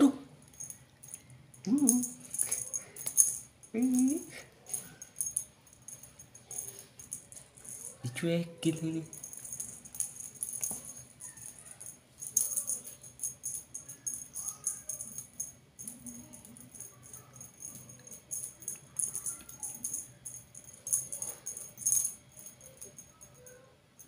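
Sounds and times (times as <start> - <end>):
cat toy jingling rattle: 0.4 - 24.0.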